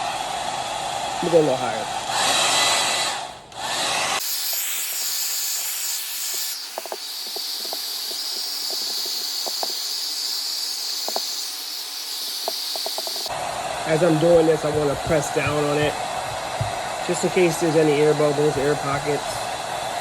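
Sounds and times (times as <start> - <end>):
hot-air blower hissing and whining: 0.0 - 20.0.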